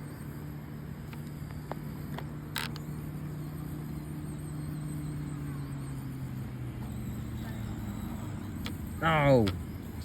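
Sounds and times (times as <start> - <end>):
small electric motor humming: 0.0 - 10.0.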